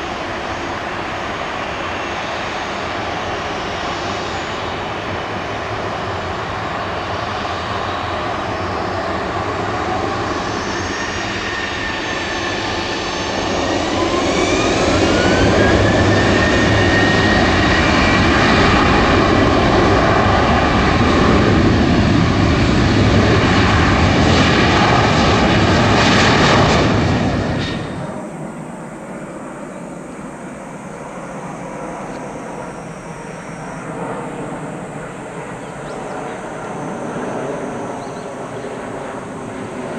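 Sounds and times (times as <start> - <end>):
distant jet: 0.0 - 39.9
jet engines spooling up: 0.0 - 39.9.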